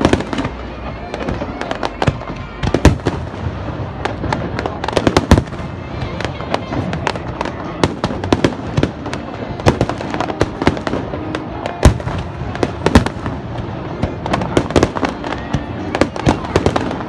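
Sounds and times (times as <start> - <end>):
continuous rumble of fireworks: 0.0 - 17.0
firework bangs and crackles: 0.0 - 17.0.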